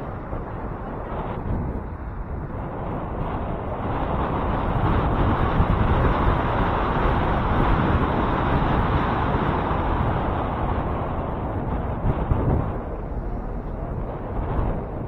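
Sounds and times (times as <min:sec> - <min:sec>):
bicycle tyre and road noise: 0:00.0 - 0:15.0
wind rushing over microphone: 0:00.0 - 0:15.0.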